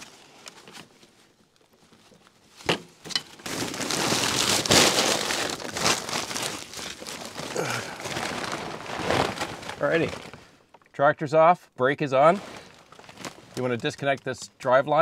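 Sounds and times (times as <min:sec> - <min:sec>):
plastic tarp crinkling: 0:00.0 - 0:10.8, 0:12.2 - 0:14.2.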